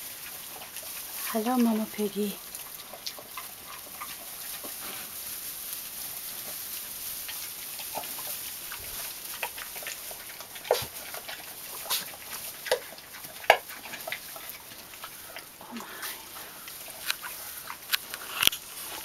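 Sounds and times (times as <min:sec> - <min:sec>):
pigs grunting and squeaking: 0:02.4 - 0:05.2, 0:06.2 - 0:19.0.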